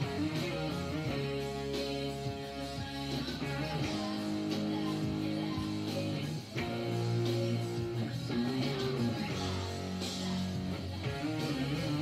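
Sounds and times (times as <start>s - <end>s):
electric guitar strummed chords: 0.0s - 12.0s.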